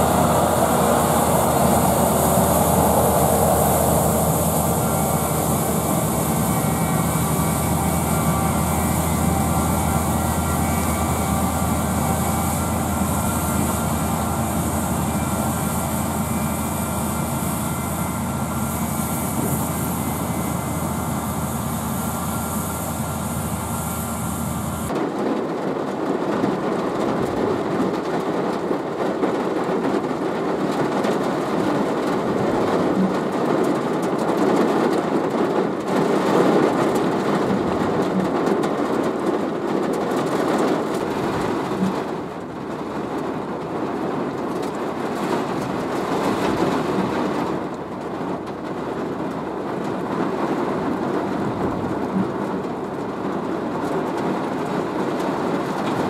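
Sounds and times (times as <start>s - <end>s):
heavy rain on vehicle roof: 0.0s - 23.6s, 24.6s - 56.0s
harvester machines droning: 0.0s - 24.9s, 35.8s - 56.0s.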